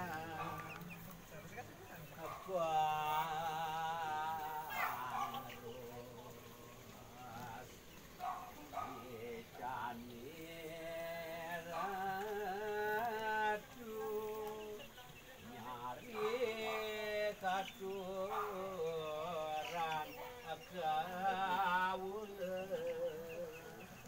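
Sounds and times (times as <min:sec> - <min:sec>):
voices chanting devotional song: 0:00.0 - 0:24.0.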